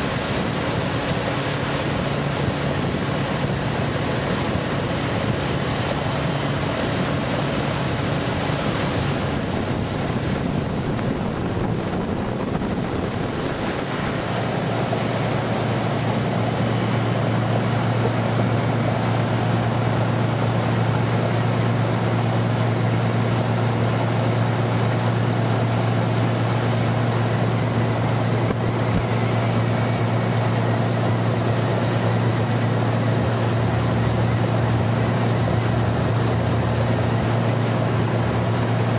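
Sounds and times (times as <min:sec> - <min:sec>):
boat engine low drone: 0:00.0 - 0:38.9
water rushing: 0:00.0 - 0:38.9
wind: 0:00.0 - 0:38.9.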